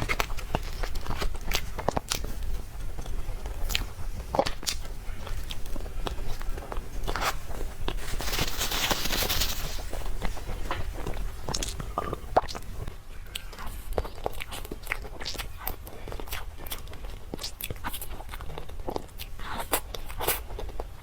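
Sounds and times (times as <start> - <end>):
person chewing cake: 0.0 - 21.0.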